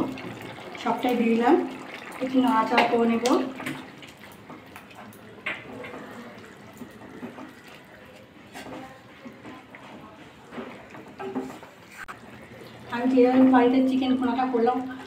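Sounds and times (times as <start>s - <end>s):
curry sloshing and squelching: 0.0s - 13.5s.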